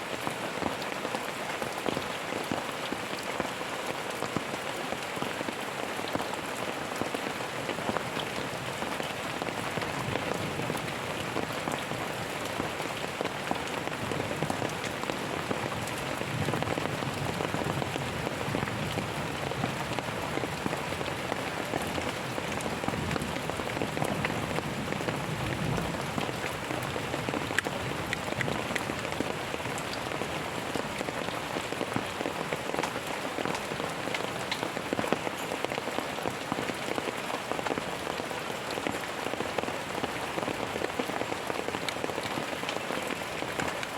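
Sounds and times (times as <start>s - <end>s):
steady rain with ticking drops: 0.0s - 43.9s.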